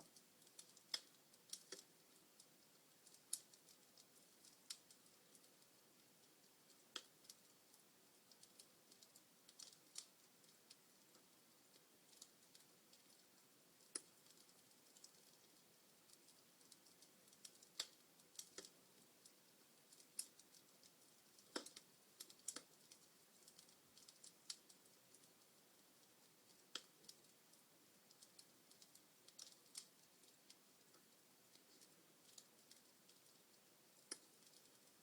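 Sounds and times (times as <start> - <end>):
faint hiss: 0.0 - 35.0
log fire crackling: 0.0 - 35.0.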